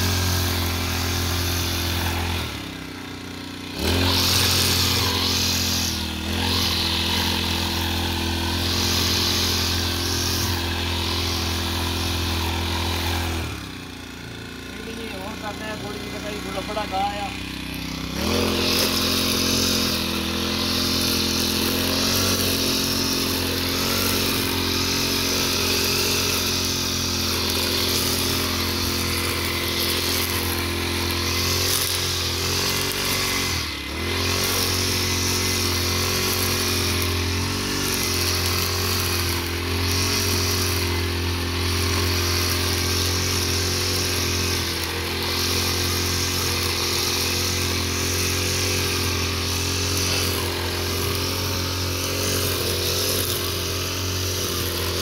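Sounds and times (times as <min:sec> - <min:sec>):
brush cutter cutting grass: 0:00.0 - 0:55.0.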